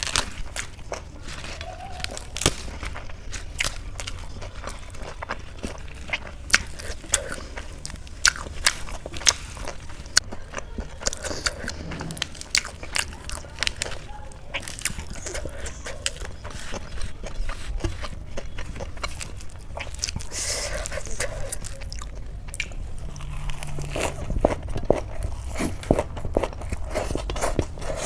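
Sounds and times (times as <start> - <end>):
low steady hum: 0.0 - 28.0
person chewing and crunching food: 0.0 - 28.0.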